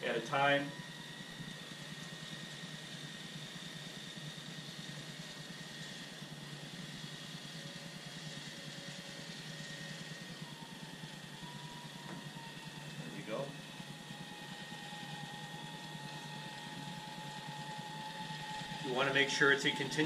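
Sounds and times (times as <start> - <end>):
caulking gun motor whirring: 0.0 - 20.0.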